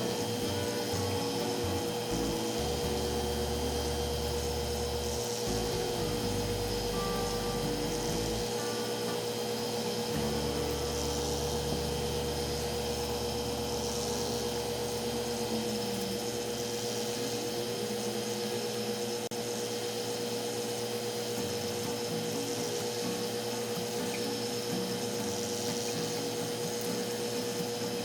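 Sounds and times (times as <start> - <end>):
service machine humming: 0.0 - 28.0.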